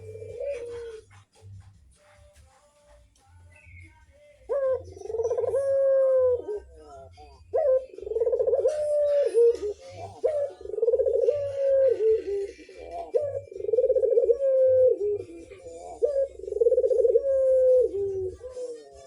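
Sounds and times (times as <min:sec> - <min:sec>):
dove cooing: 0:00.0 - 0:01.2, 0:04.5 - 0:19.0.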